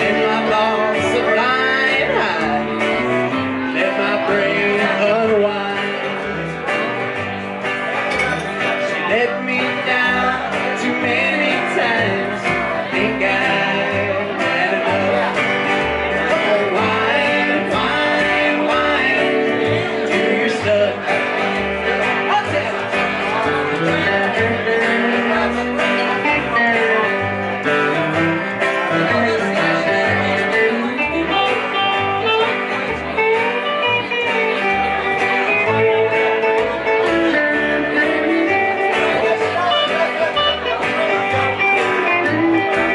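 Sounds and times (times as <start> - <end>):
acoustic guitar: 0.0 - 42.9
electric guitar: 0.0 - 42.9
plucked upright bass: 0.0 - 42.9.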